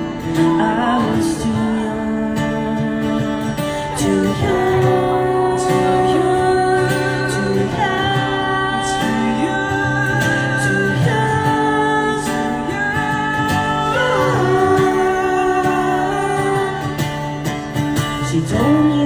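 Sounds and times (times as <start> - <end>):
acoustic guitar: 0.0 - 19.0
live pop song: 0.0 - 19.0
person singing long notes: 0.4 - 17.0.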